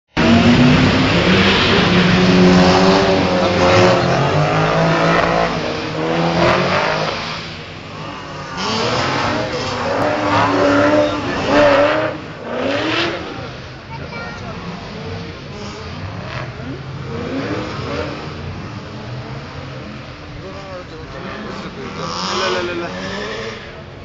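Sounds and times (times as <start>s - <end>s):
car engines revving: 0.1s - 24.0s.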